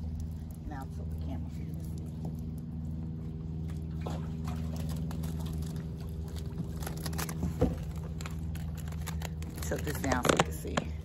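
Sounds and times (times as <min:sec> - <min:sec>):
low motor hum: 0:00.0 - 0:11.0
water dripping and splashing: 0:00.0 - 0:11.0.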